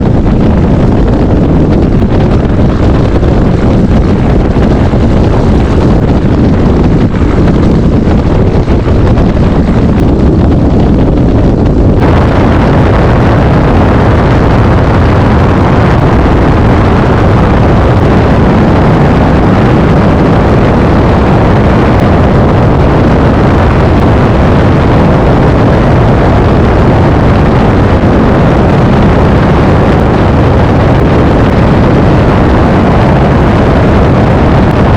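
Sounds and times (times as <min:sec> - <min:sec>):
propeller plane engine running: 0:00.0 - 0:34.9.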